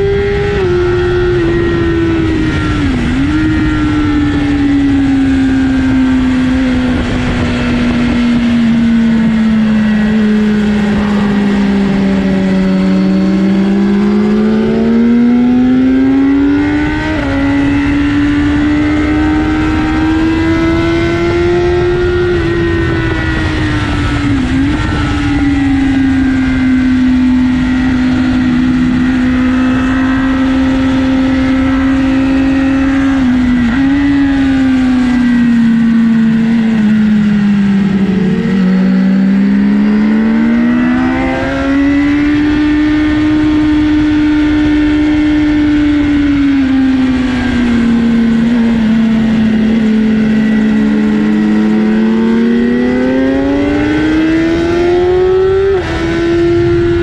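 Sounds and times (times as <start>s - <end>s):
motorcycle engine running hard: 0.0s - 57.0s
wind noise: 0.0s - 57.0s.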